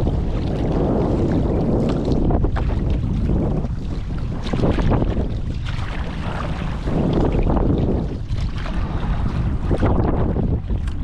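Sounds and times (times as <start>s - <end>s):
paddle splashes: 0.0s - 11.0s
water splashing around kayak: 0.0s - 11.0s
wind buffeting microphone: 0.0s - 11.0s.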